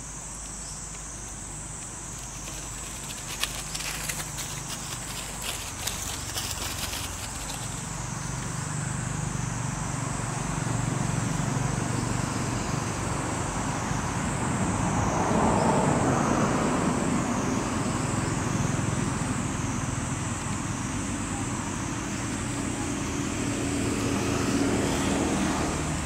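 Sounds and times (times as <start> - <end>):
road traffic: 0.0 - 26.0
vehicle passing: 2.2 - 20.3, 21.0 - 26.0.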